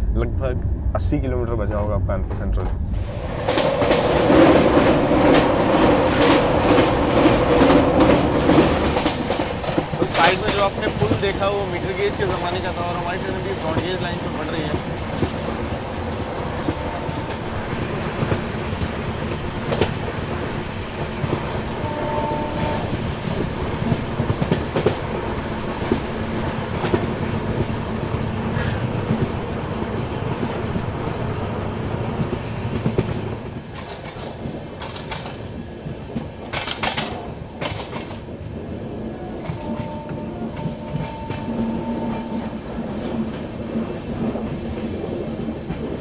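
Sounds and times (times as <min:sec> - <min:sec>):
train coaches rumbling: 0:00.0 - 0:46.0
wheels clicking on rails: 0:01.7 - 0:46.0.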